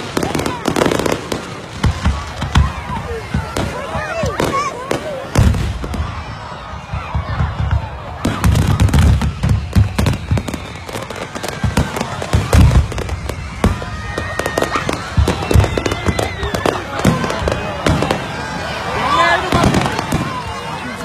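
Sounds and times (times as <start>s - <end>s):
fireworks deep booms: 0.0s - 18.7s, 19.4s - 20.7s
fireworks bangs and crackles: 0.0s - 21.0s.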